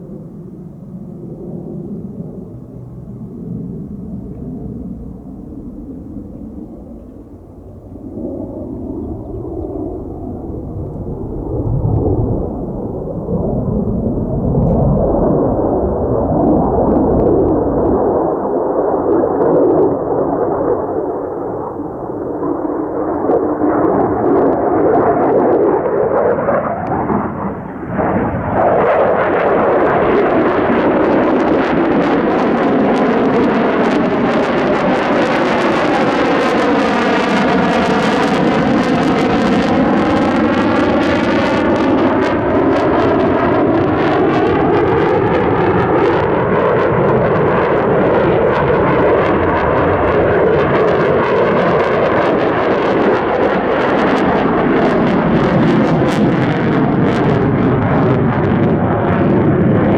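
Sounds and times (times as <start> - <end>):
fighter jet engine rumbling: 0.0 - 59.9.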